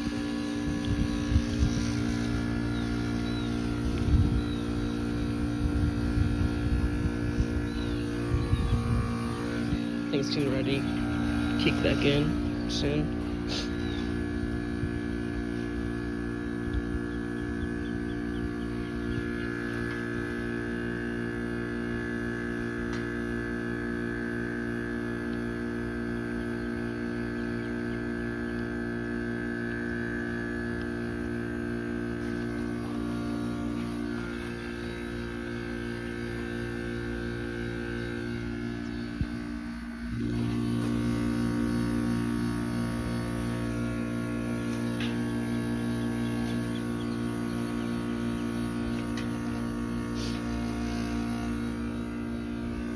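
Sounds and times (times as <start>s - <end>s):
heat pump humming: 0.0s - 52.9s.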